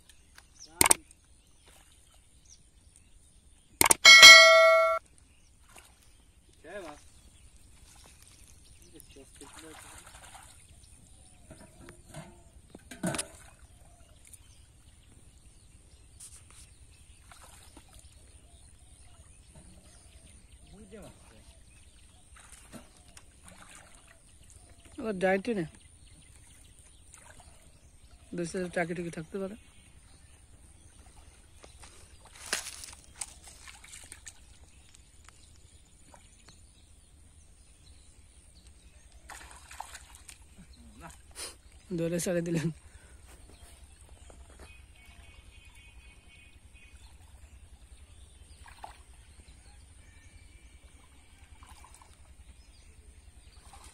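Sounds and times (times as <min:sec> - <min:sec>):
muddy water sloshing and splashing: 0:00.2 - 0:02.8, 0:05.5 - 0:37.4, 0:38.1 - 0:46.0, 0:46.6 - 0:50.0, 0:50.6 - 0:53.9.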